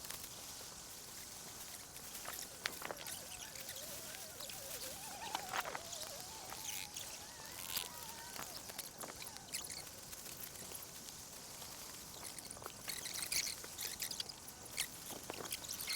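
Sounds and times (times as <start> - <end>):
hissy outdoor background: 0.0 - 15.9
tent gear clicks and rustles: 0.0 - 15.9.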